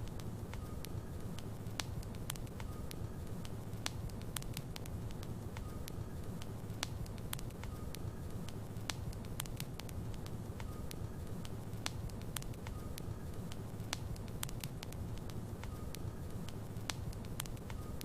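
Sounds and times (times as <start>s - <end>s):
logs burning in fireplace: 0.0s - 18.0s.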